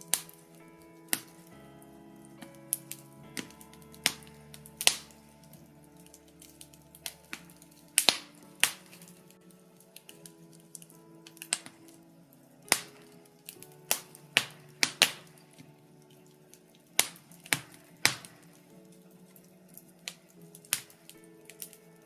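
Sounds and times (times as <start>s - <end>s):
logs crackling in fireplace: 0.0s - 22.0s
soft background music: 0.0s - 22.0s.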